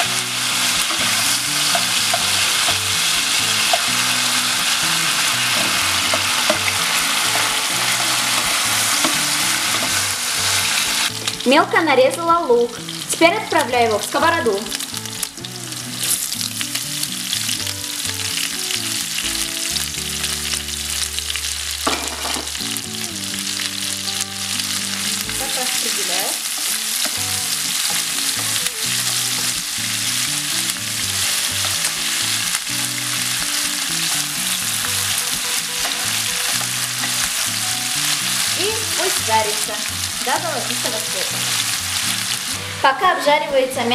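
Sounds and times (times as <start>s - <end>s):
food sizzling in oil: 0.0s - 43.9s.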